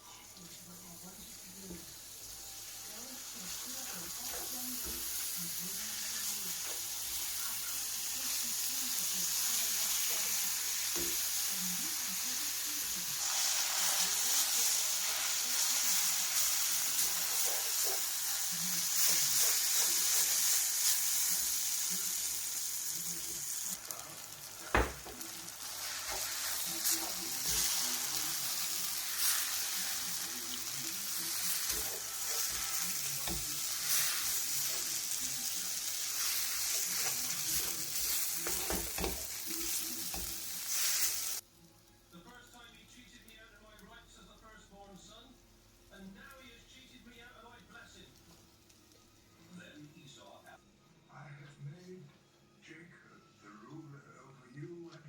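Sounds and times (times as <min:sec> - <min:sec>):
food sizzling in a pan: 0:00.0 - 0:42.6, 0:47.3 - 0:49.6.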